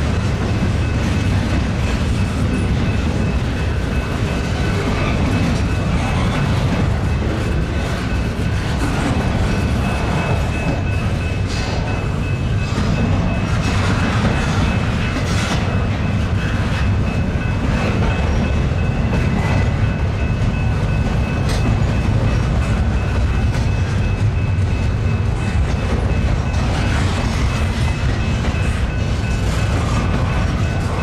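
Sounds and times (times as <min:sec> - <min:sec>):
rumble of train wheels on rail: 0:00.0 - 0:31.0.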